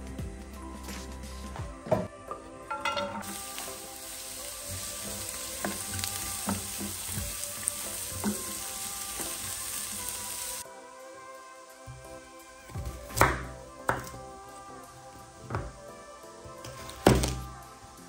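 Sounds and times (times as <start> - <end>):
vegetables sizzling in oil: 2.7 - 10.6, 11.3 - 18.0.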